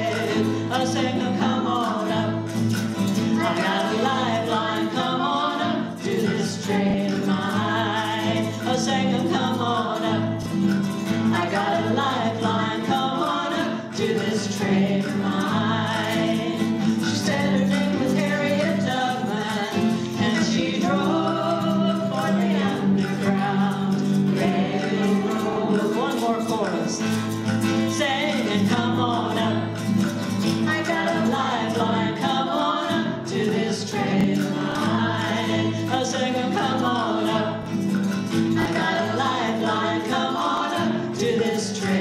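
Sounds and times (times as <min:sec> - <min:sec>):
strummed acoustic guitars: 0:00.0 - 0:42.0
women singing together: 0:00.0 - 0:42.0.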